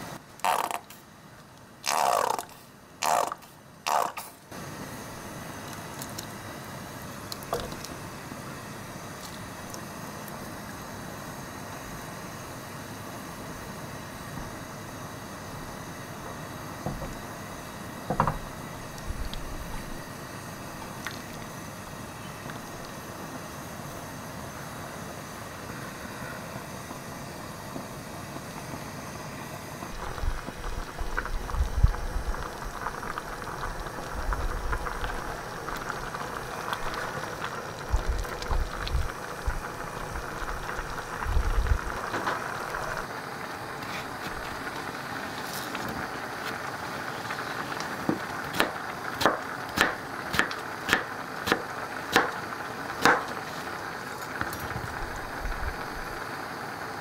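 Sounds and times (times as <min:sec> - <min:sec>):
soup bubbling in a saucepan: 0:00.0 - 0:57.0.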